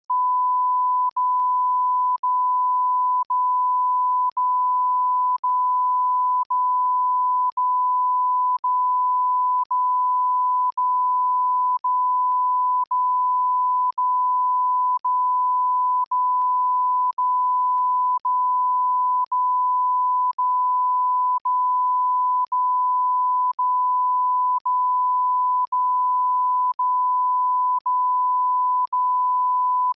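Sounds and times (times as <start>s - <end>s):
high-pitched censor bleep tone: 0.1s - 29.9s.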